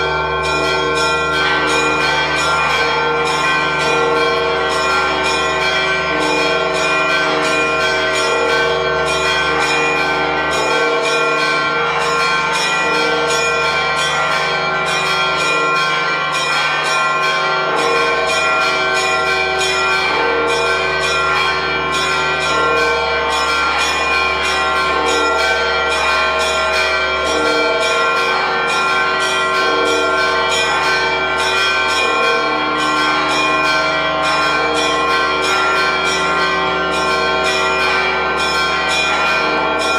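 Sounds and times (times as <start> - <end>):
church bells ringing a peal: 0.0 - 39.9.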